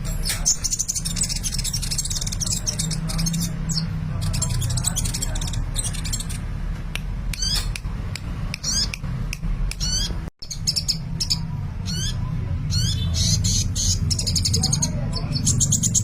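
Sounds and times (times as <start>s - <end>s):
bird twittering: 0.2s - 6.5s, 8.5s - 9.0s, 9.7s - 16.0s.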